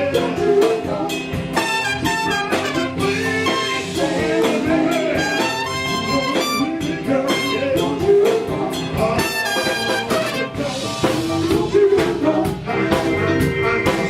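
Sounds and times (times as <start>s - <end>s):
drum kit beat: 0.0s - 14.0s
guitar: 0.0s - 14.0s.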